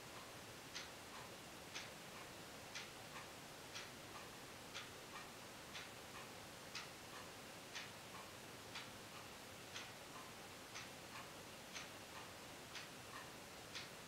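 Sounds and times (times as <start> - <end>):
clock tick-tock: 0.0 - 14.0.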